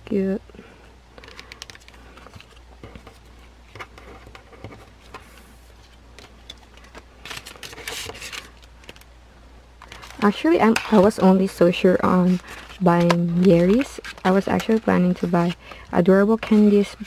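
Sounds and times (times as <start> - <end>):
plastic rustling: 1.1 - 9.1, 9.8 - 17.0.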